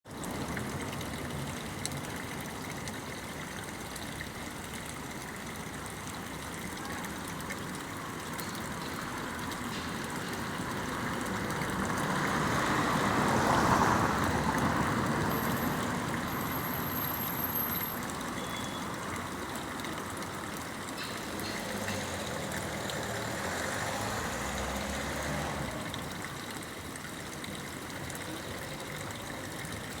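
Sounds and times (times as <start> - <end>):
running water rushing: 0.1 - 30.0.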